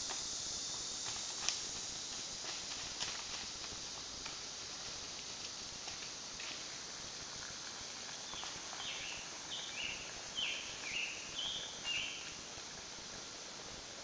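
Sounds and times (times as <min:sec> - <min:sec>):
woodland background hiss: 0:00.0 - 0:14.0.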